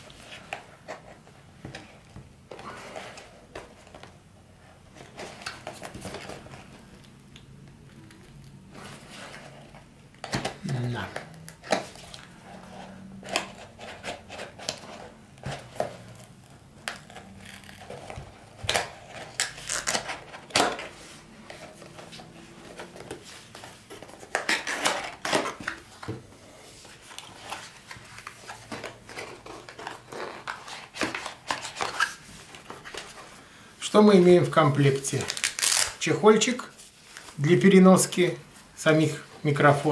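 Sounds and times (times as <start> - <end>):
cardboard packaging rustling: 0.0 - 33.5, 34.1 - 37.8.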